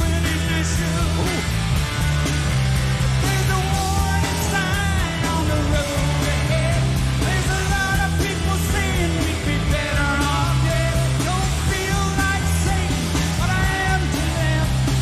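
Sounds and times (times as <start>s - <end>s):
male lead vocal: 0.0s - 1.8s, 3.0s - 15.0s
hard-hit drums: 0.0s - 15.0s
live rock band playing: 0.0s - 15.0s.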